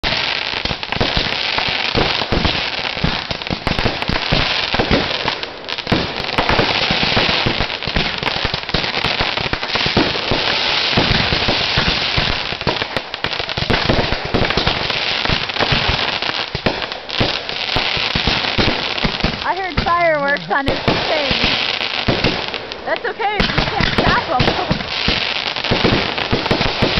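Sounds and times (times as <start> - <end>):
fireworks crackling pops: 0.0 - 26.9.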